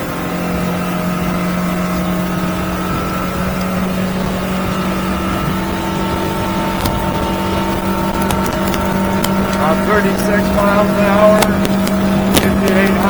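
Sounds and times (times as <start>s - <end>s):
outboard motor at high throttle: 0.0s - 13.0s.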